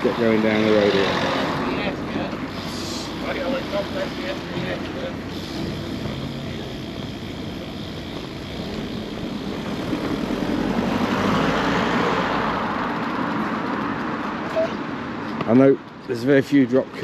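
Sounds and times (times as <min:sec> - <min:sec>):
vehicle passing: 0:00.0 - 0:15.3
low traffic rumble: 0:00.0 - 0:17.0.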